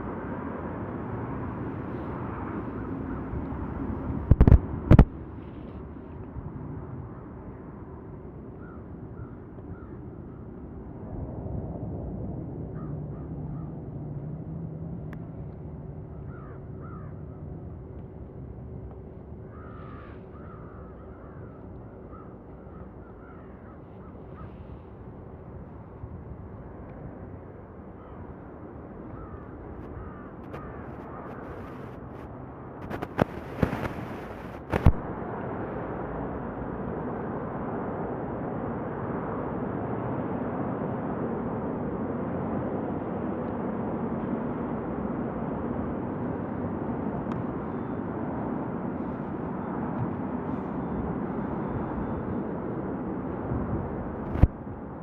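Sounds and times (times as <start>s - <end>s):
jet engine rumble: 0.0s - 55.0s.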